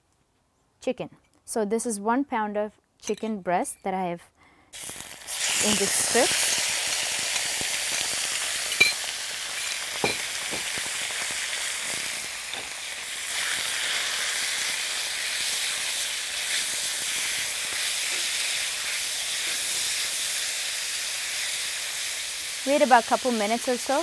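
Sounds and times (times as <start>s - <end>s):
chicken sizzling in hot oil: 4.8s - 24.0s.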